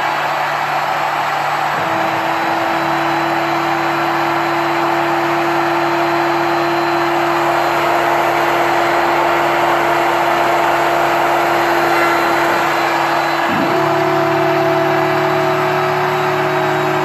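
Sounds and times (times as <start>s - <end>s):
machine motor whining: 1.5s - 17.0s.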